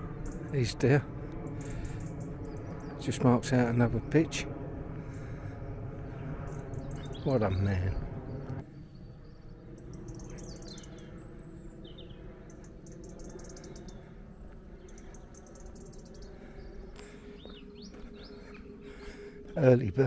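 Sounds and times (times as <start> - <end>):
low steady background rumble: 0.0 - 20.0
songbirds chirping: 0.0 - 20.0.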